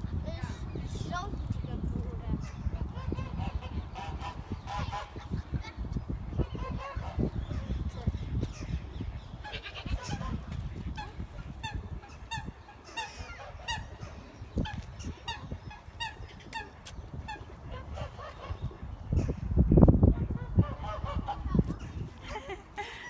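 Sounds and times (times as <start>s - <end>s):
birds calling: 0.0s - 19.6s.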